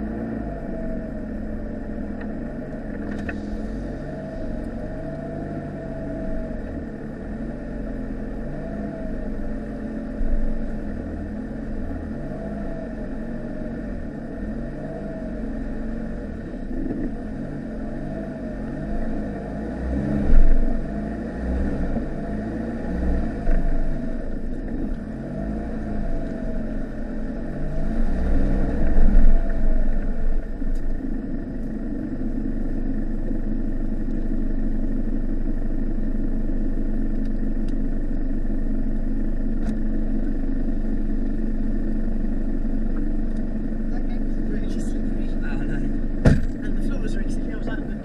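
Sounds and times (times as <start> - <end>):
diesel engine from inside cab: 0.0 - 48.0.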